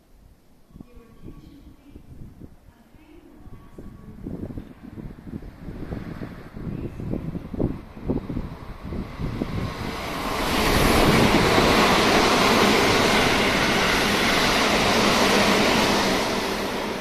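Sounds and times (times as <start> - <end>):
electric train passing at speed: 3.4 - 17.0.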